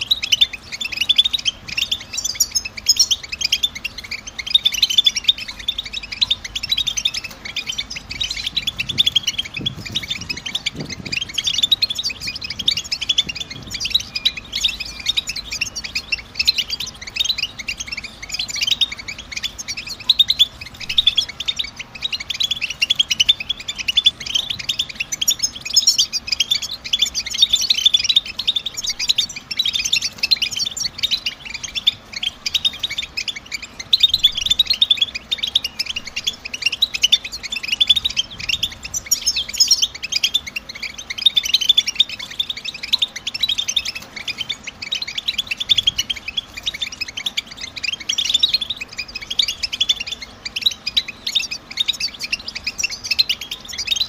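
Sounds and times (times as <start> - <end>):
goldfinch twittering: 0.0 - 54.0.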